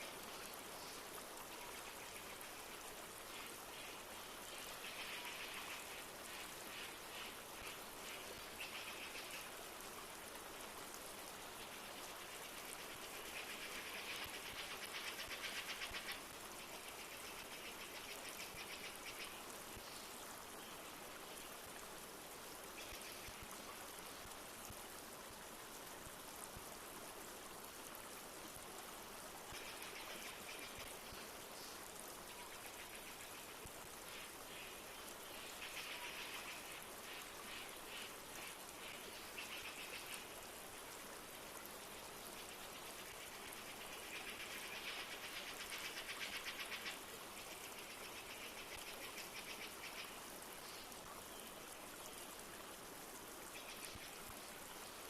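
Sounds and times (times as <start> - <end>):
light rain: 0.0 - 55.0
river flowing: 0.0 - 55.0.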